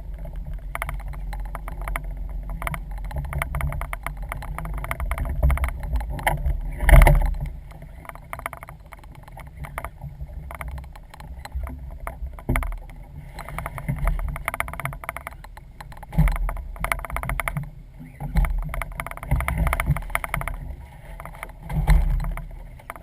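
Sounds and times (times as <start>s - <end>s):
knocks and clicks on a boat: 0.0s - 23.0s.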